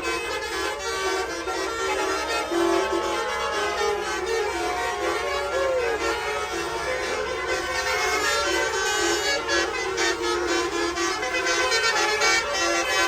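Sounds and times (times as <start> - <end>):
multi-tone bus air horns: 0.0 - 13.0.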